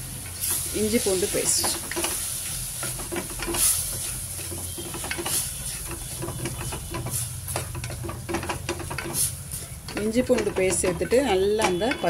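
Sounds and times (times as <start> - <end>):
frying sizzle: 0.0 - 12.0
wooden spatula scraping a pot: 0.2 - 12.0.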